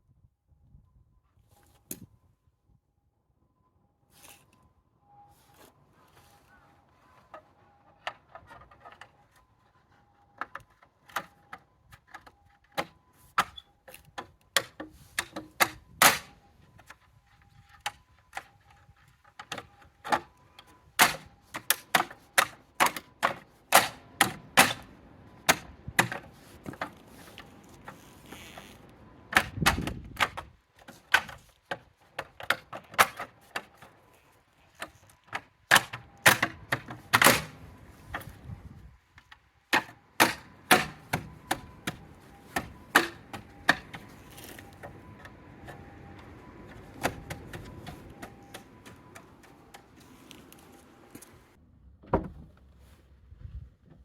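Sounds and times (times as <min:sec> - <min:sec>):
hand tools clicking and knocking: 0:07.1 - 0:38.5, 0:39.2 - 0:51.4.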